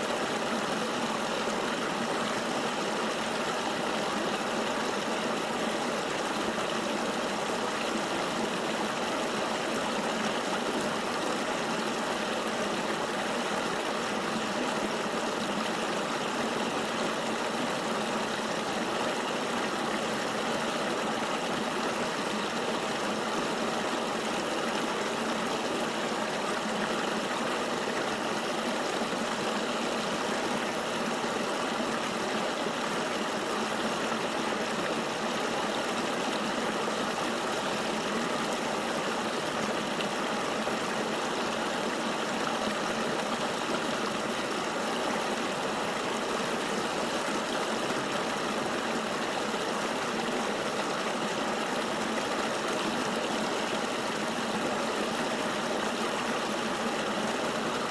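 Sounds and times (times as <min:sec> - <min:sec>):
river flowing: 0:00.0 - 0:57.9.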